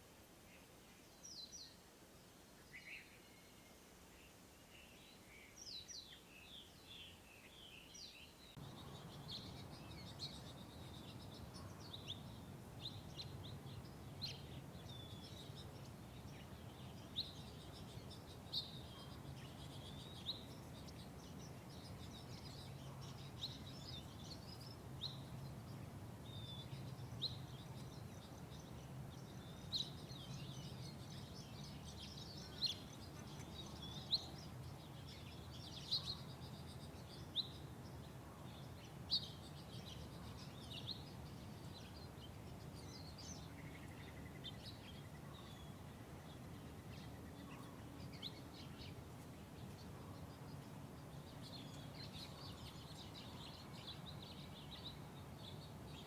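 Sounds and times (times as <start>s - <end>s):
low steady background noise: 0.0s - 56.0s
small birds chirping: 0.5s - 56.0s.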